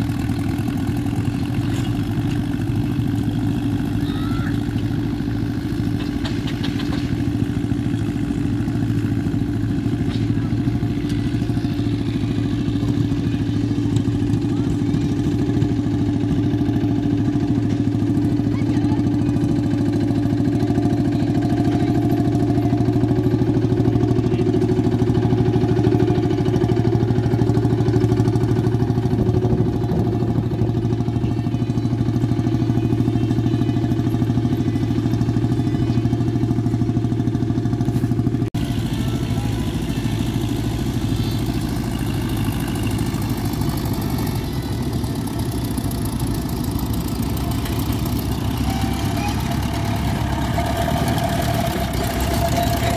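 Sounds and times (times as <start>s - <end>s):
rough noisy tractor engine: 0.0s - 52.9s
tractor engine running: 0.0s - 52.9s.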